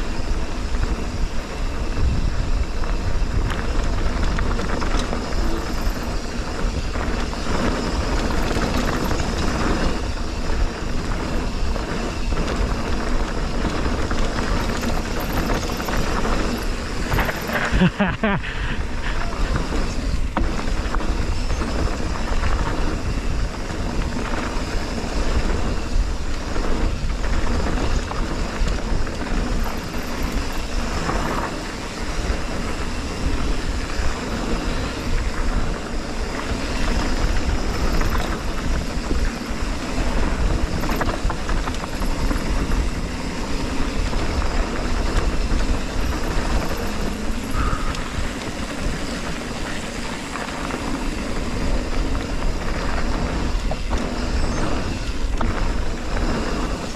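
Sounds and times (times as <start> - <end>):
wind over microphone: 0.0 - 56.9
tyres rumbling on dirt: 0.1 - 56.9
bike knocks and rattles: 2.7 - 18.4, 19.2 - 56.9.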